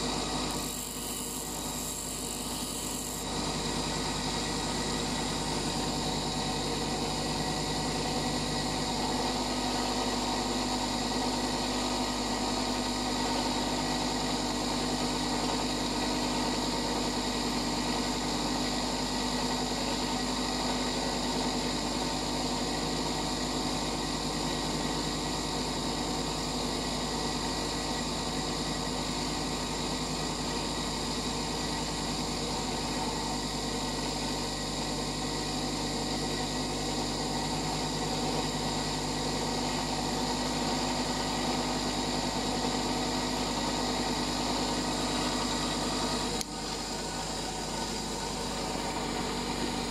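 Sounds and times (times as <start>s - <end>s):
bench grinder humming: 0.0s - 49.9s.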